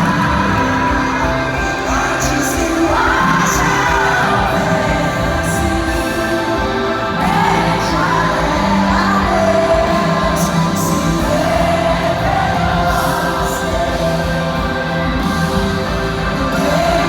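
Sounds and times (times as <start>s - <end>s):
band playing sustained chords: 0.0s - 17.0s.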